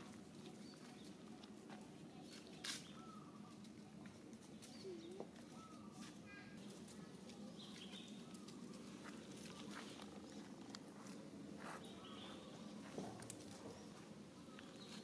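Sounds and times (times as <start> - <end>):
soft chirping calls: 0.0 - 10.5, 11.6 - 15.0
low steady hum: 0.0 - 15.0.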